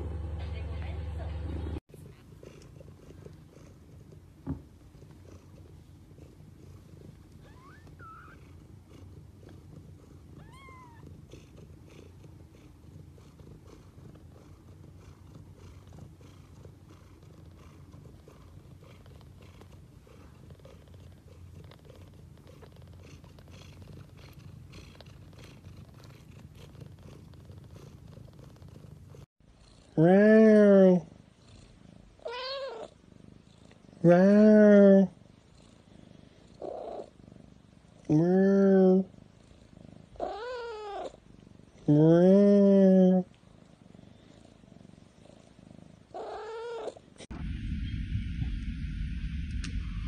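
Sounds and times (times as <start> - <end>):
cat purring: 0.0 - 50.0.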